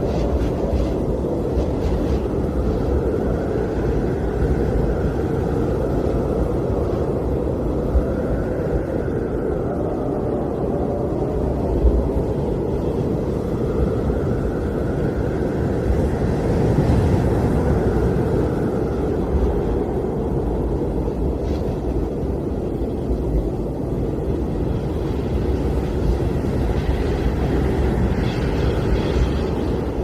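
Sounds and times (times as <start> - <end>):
blizzard wind rumbling: 0.0 - 30.0
faint wind whistle: 0.0 - 30.0.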